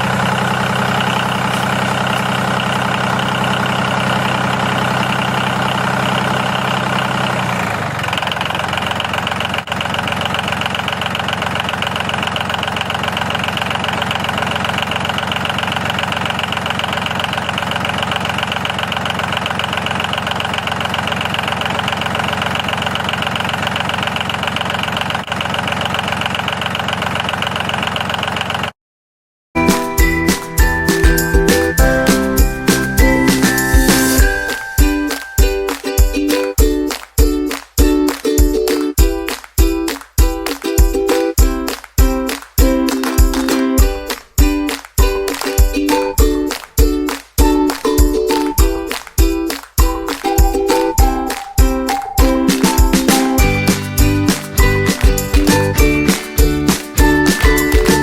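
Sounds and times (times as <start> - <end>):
tractor engine running: 0.0 - 28.8, 29.6 - 58.0.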